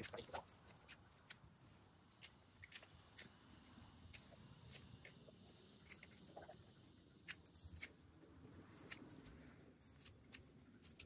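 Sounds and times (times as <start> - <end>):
shrub snapping and crackling: 0.0 - 11.0.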